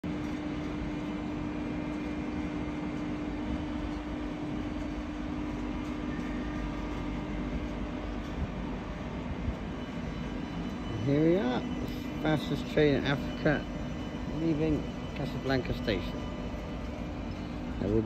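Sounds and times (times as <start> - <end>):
low train rumble: 0.0 - 18.0
train electric hum: 0.0 - 18.0.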